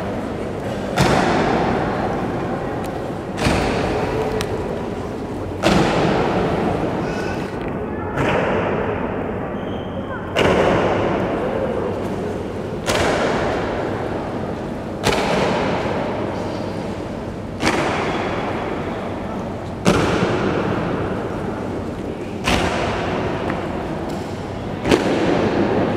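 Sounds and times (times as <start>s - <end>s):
boots stamping in a large hall: 0.0s - 9.4s, 10.1s - 25.9s.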